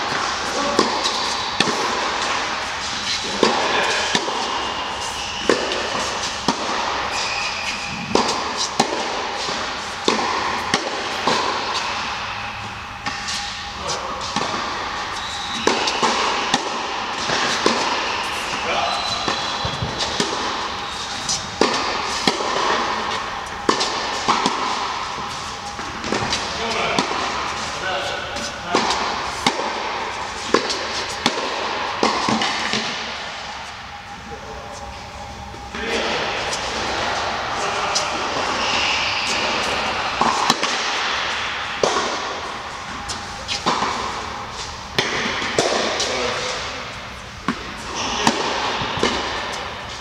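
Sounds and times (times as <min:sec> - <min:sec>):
tennis ball bouncing on court: 0:00.1 - 0:02.5, 0:03.1 - 0:12.3, 0:14.2 - 0:33.2, 0:38.6 - 0:46.1, 0:47.4 - 0:49.6
tennis ball struck by rackets: 0:00.1 - 0:12.4, 0:14.2 - 0:33.7, 0:35.5 - 0:46.6, 0:47.4 - 0:49.7.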